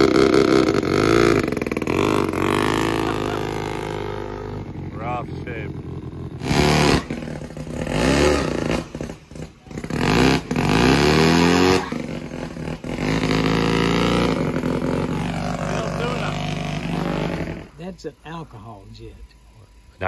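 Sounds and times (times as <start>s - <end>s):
van engine revving: 0.0s - 20.0s.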